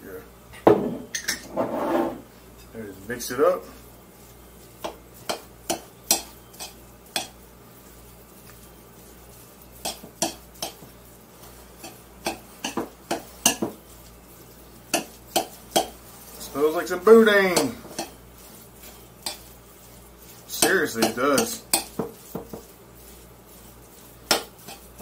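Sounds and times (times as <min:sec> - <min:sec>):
utensil stirring in a bowl: 0:02.3 - 0:25.0.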